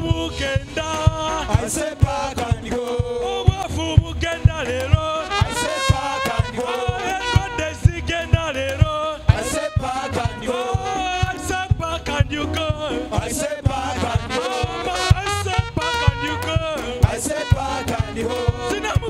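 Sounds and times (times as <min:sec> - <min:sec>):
band playing drum beat: 0:00.0 - 0:19.0
men singing: 0:00.0 - 0:19.0.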